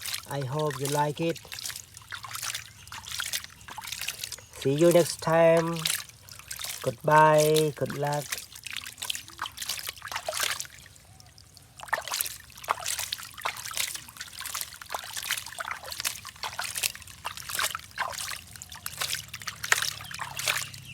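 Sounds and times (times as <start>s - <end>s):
water trickling and splashing: 0.0s - 20.9s.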